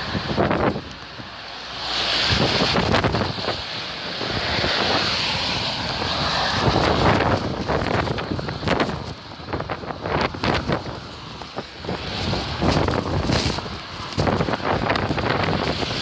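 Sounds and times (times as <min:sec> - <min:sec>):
wind buffeting a microphone: 0:00.0 - 0:16.0.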